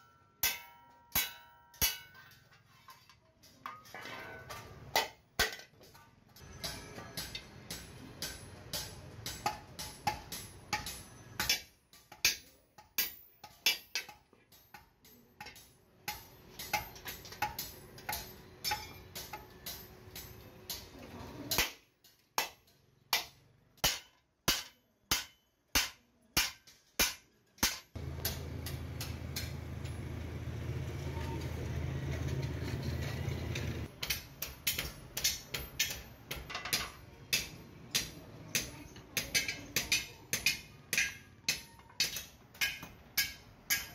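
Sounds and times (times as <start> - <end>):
hammer striking metal on anvil: 0.0 - 2.5, 3.7 - 30.0, 33.8 - 43.9.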